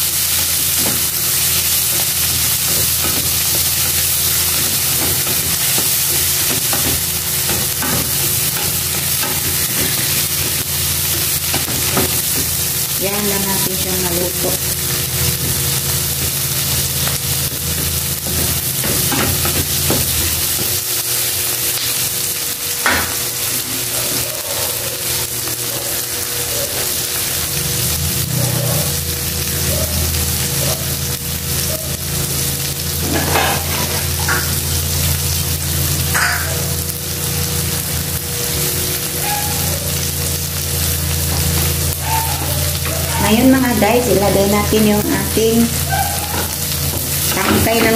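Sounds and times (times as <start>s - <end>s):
vegetables sizzling in oil: 0.0s - 47.9s.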